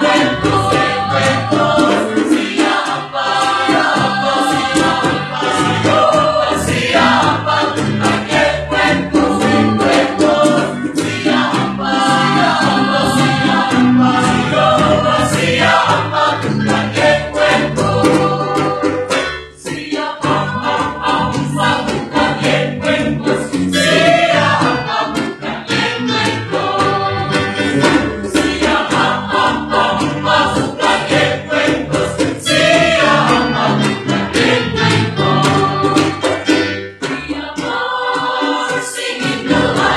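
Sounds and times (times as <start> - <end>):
mixed choir singing in parts: 0.0 - 39.9.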